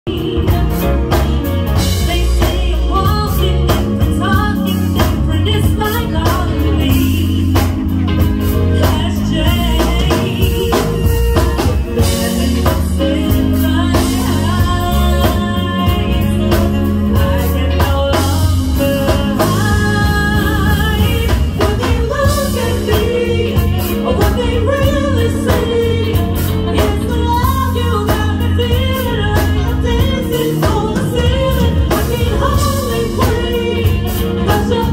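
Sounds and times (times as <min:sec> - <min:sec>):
bass line: 0:00.0 - 0:34.9
live band playing: 0:00.0 - 0:34.9
woman singing: 0:00.0 - 0:34.9.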